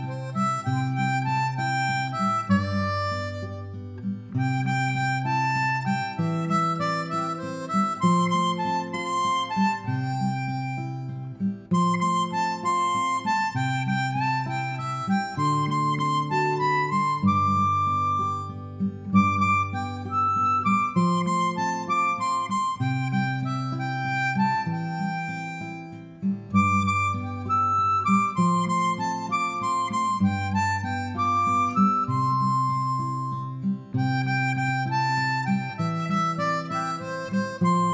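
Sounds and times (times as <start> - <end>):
held melody: 0.0 - 37.9.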